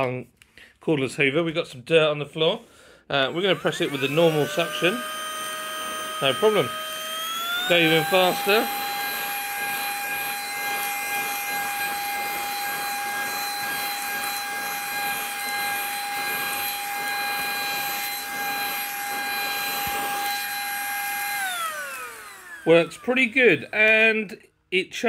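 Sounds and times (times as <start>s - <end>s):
handheld vacuum cleaner whine: 3.2s - 23.7s.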